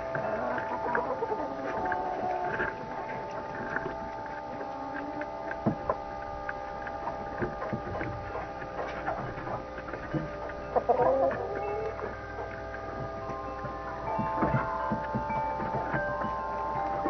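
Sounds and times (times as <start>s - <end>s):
steady electrical hum: 0.0s - 17.0s
wavering chirp: 0.0s - 17.0s.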